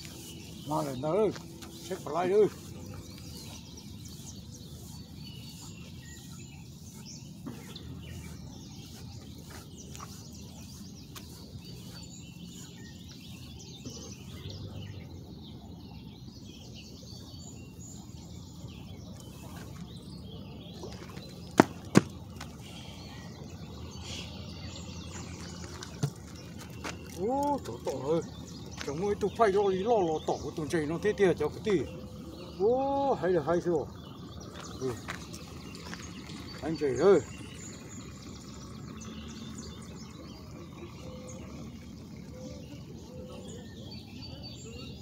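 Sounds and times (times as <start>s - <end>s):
faint bird chirps: 0.0s - 45.0s.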